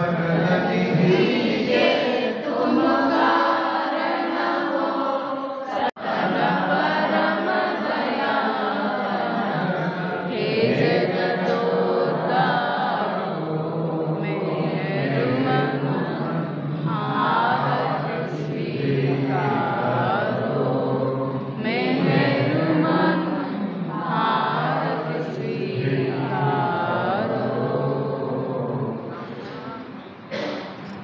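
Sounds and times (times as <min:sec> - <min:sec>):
people singing in chorus: 0:00.0 - 0:31.0.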